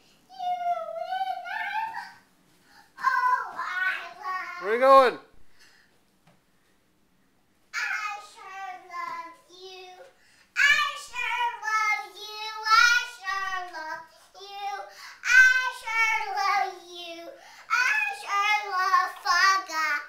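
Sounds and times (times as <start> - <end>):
toddler girl singing: 0.3 - 4.6, 7.7 - 20.0.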